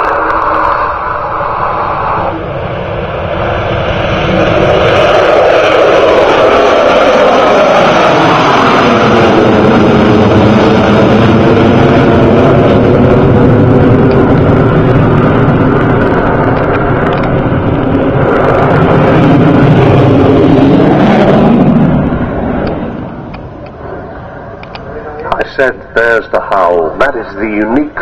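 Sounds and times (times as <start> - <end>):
loud jet engine roar: 0.0 - 28.0.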